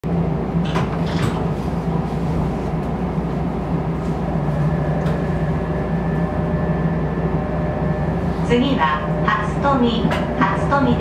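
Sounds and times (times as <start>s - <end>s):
train electrical hum: 0.0s - 11.0s.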